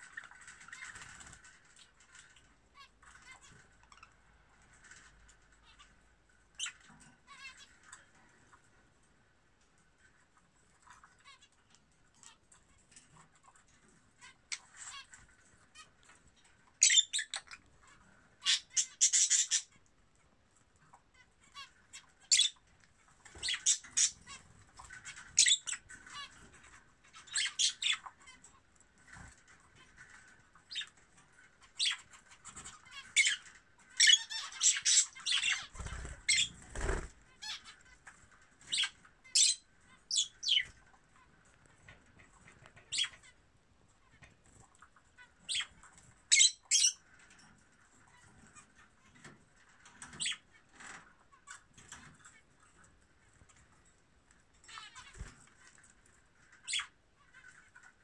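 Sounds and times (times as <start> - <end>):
parrot chicks chirping: 0.0 - 8.7, 10.0 - 58.0.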